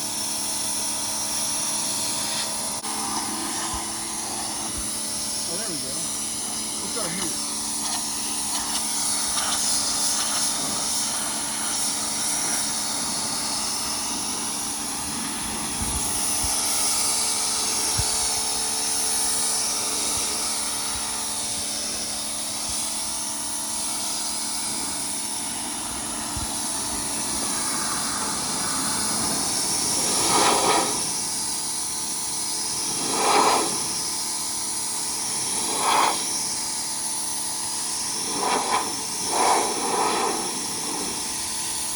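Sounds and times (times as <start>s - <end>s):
pressure washer water jet hissing: 0.0s - 41.9s.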